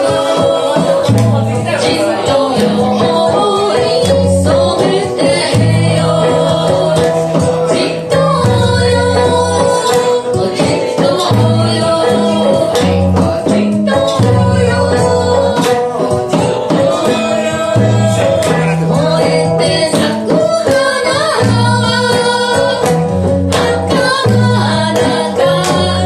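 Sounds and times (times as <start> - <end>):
percussion strikes: 0.0 - 26.0
sustained bass notes: 0.0 - 26.0
woman singing folk song: 0.0 - 26.0.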